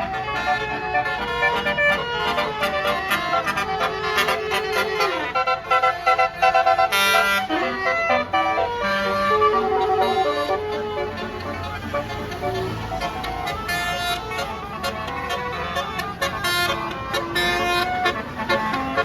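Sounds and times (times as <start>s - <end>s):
low rumble of vehicle noise: 0.0s - 19.0s
multi-trumpet air horn melody: 0.0s - 19.0s.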